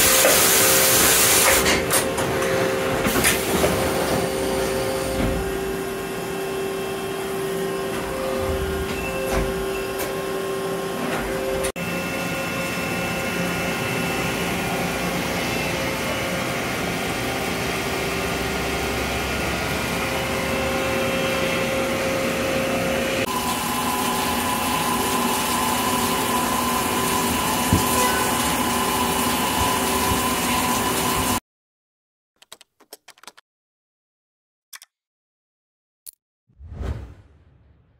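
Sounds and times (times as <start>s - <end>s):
machine whirring hum: 0.1s - 30.8s.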